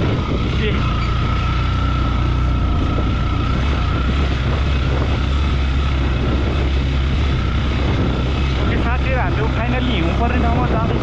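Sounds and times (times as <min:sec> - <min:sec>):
motorcycle engine running: 0:00.0 - 0:11.0
rushing wind noise: 0:00.0 - 0:11.0.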